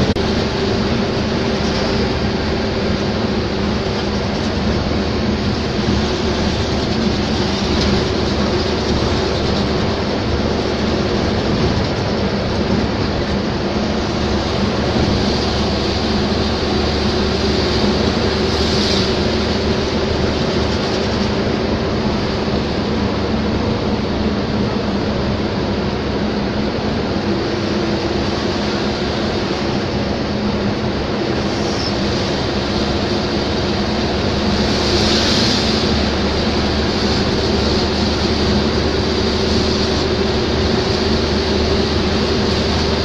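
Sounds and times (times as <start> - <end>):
road noise inside vehicle: 0.0 - 43.0
vehicle engine drone: 0.0 - 43.0.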